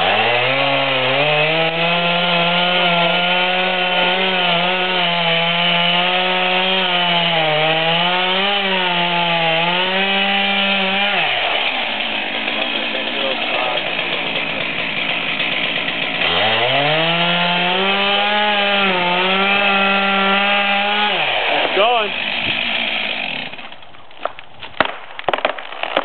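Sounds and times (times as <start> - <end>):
chainsaw revving: 0.0 - 23.9.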